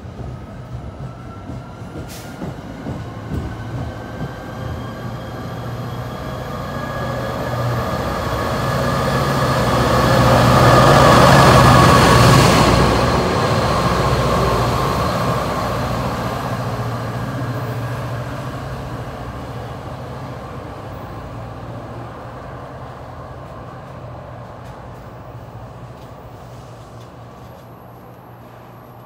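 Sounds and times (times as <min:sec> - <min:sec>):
train wheels on rails: 0:00.0 - 0:29.0
locomotive engine drone: 0:02.8 - 0:29.0.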